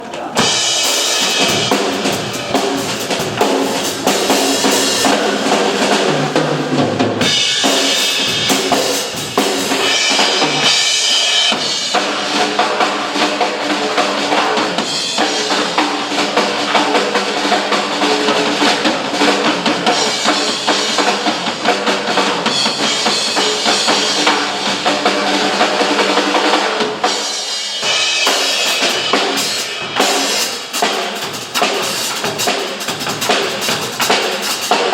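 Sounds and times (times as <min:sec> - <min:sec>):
drum kits playing: 0:00.0 - 0:34.9.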